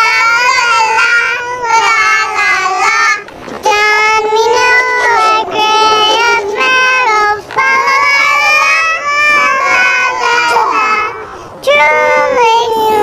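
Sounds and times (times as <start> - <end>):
high-pitched childlike singing: 0.0 - 13.0.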